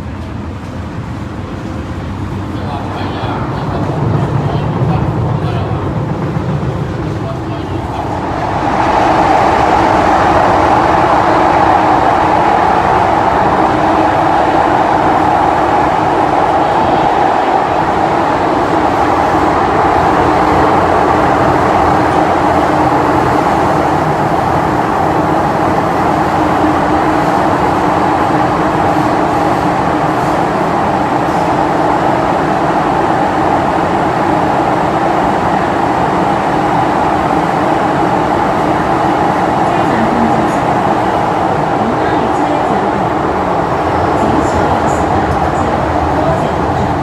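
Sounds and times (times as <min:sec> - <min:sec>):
train wheels rumbling: 0:00.0 - 0:47.0.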